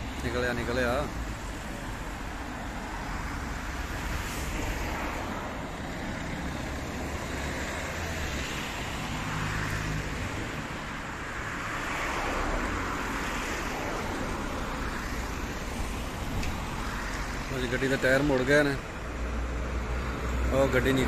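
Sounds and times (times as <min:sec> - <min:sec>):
car engines and tyre noise: 0:00.0 - 0:21.0
car passing: 0:00.0 - 0:21.0.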